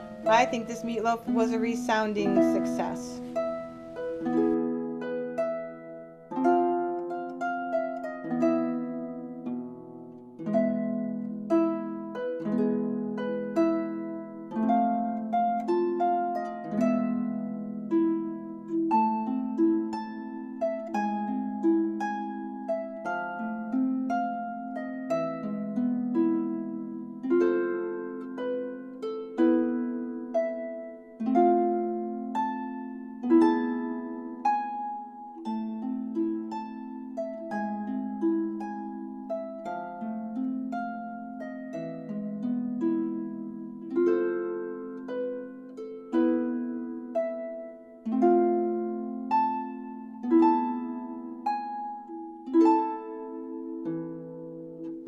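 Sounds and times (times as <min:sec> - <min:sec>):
solo harp music: 0:00.0 - 0:55.0.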